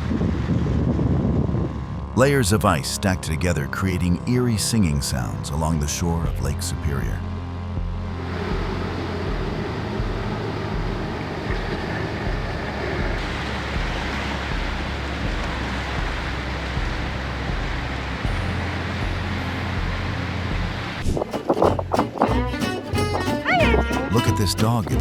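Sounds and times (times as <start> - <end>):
low bass pulse: 0.0 - 25.0.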